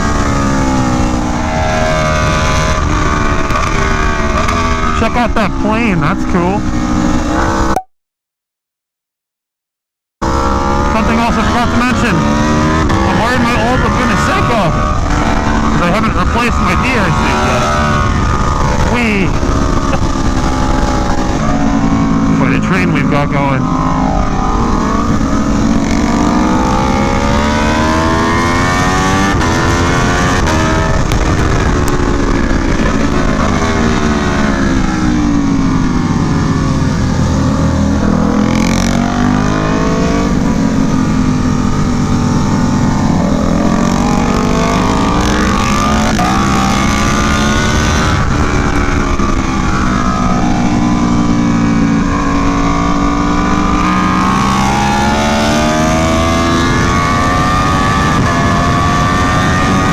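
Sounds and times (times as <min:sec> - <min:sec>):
motorcycle engine revving: 0:00.0 - 0:07.8, 0:10.2 - 0:59.9
wind and road noise: 0:00.0 - 0:07.8, 0:10.2 - 0:59.9.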